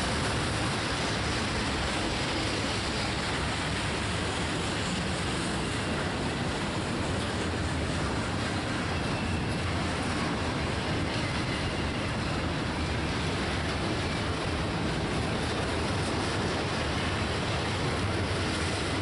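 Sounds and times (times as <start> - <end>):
freight train wheels rushing on rail: 0.0 - 19.0.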